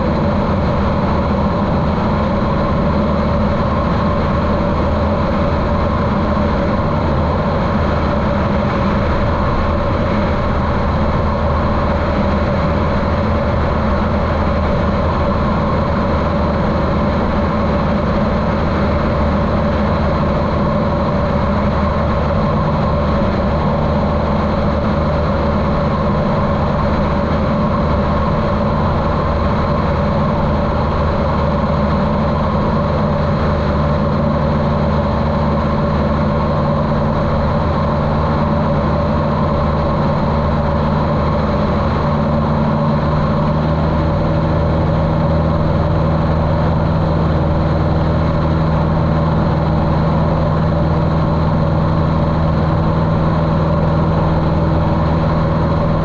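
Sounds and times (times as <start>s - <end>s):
muffled aircraft engine and propeller: 0.0s - 56.0s.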